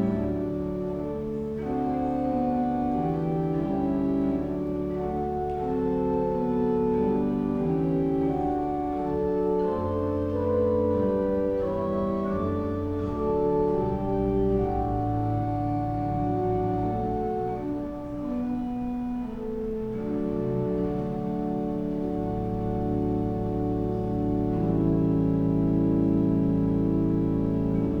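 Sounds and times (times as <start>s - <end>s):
deep organ pedal notes: 0.0s - 28.0s
pipe organ chords: 0.0s - 28.0s.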